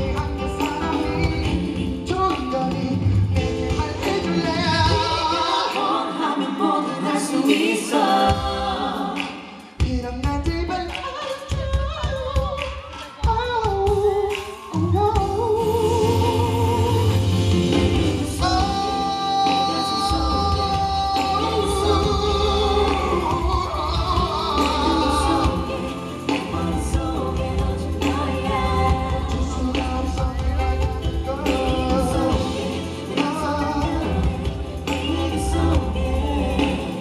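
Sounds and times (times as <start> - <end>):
live pop music with singing: 0.0 - 37.0.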